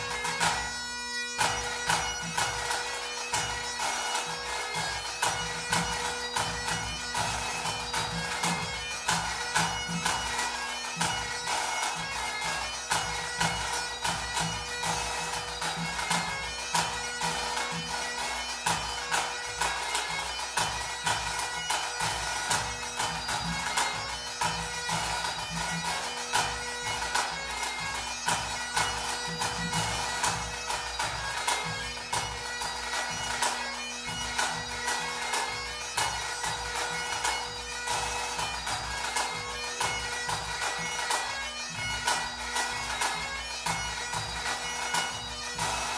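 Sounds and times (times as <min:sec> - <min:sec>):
bagpipes playing a tune: 0:00.0 - 0:45.9.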